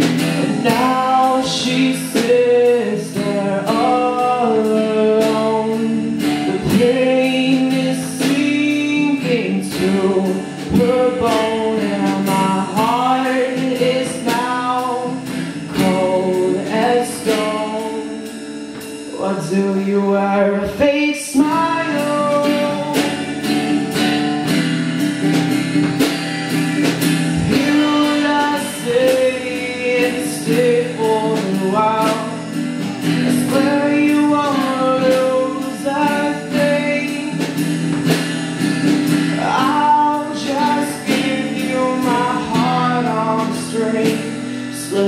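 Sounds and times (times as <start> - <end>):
acoustic guitar strumming: 0.0 - 45.0
person singing: 0.0 - 45.0.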